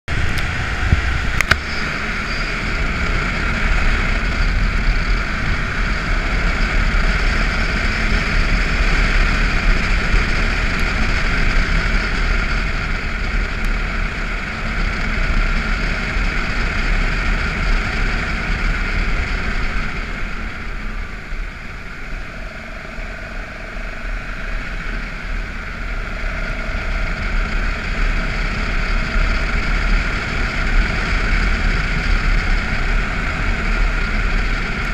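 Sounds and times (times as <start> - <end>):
motorcycle engine: 0.0 - 34.9.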